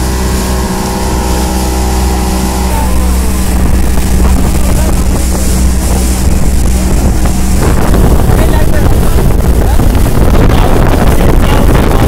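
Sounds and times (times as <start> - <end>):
outboard motor droning: 0.0 - 12.0
wind buffeting microphone: 0.0 - 12.0.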